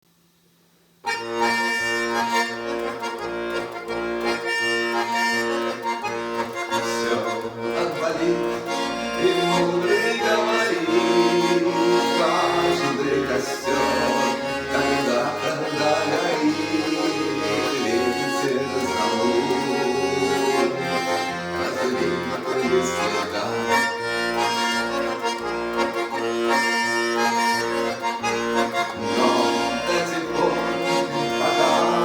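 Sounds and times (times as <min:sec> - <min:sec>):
accordion playing chords: 0:01.0 - 0:32.0.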